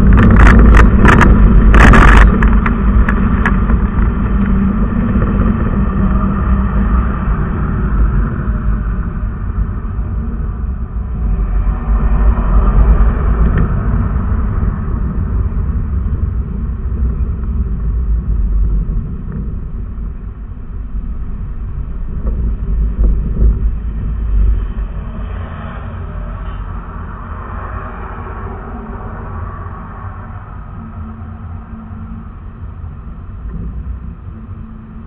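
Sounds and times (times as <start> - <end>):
road noise: 0.0 - 35.0
vehicle engine rumble: 0.0 - 35.0.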